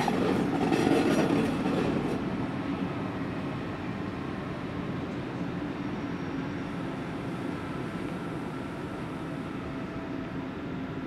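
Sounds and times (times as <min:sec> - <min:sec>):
electric locomotive drone: 0:00.0 - 0:11.0.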